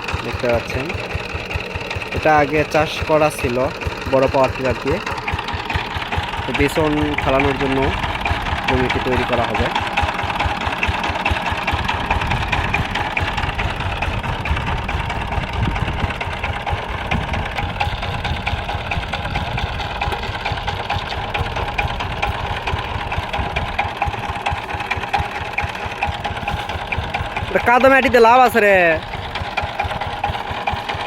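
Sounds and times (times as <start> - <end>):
diesel engine running steadily: 0.0 - 31.0.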